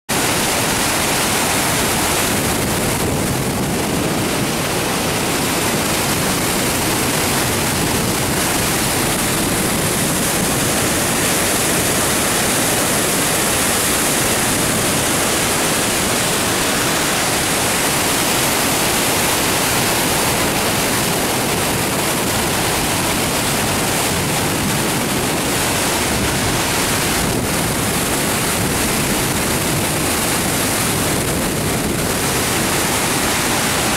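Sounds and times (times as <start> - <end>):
floodwater pouring over spillway: 0.1 - 33.9.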